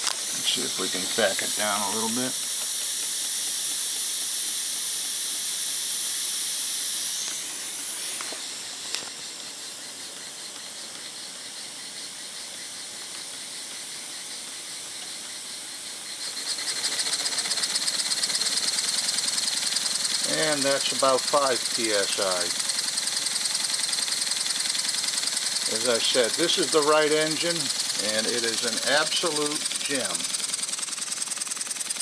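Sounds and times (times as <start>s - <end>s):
steam engine exhaust puffs: 0.0s - 32.0s
steam hiss: 0.0s - 32.0s.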